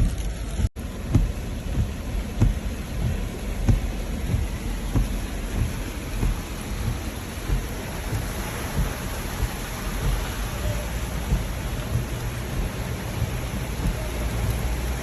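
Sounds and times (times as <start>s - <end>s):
low uneven rumble: 0.0s - 15.0s
steady rain: 0.0s - 15.0s.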